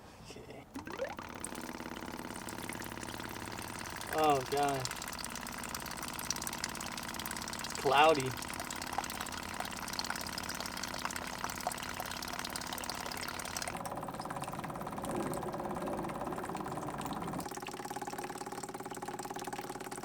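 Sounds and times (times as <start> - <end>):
engine idling: 1.2 - 17.4.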